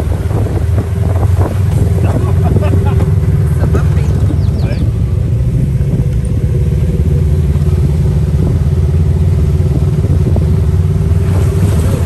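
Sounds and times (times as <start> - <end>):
buggy engine rumbling: 0.0 - 12.0.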